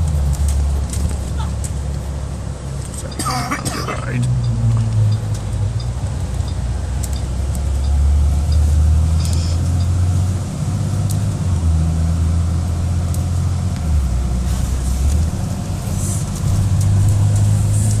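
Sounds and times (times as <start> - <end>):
road rumble: 0.0 - 18.0
vehicle engine drone: 0.0 - 18.0.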